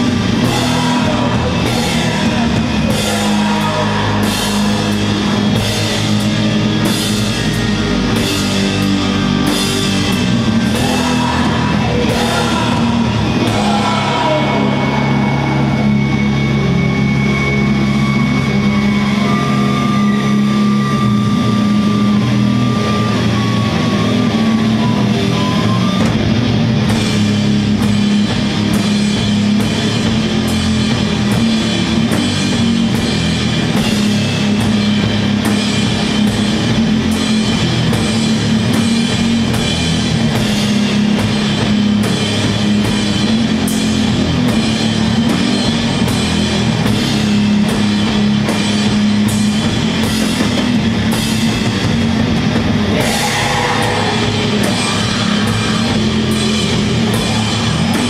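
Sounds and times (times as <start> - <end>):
heavy metal band playing: 0.0 - 58.0.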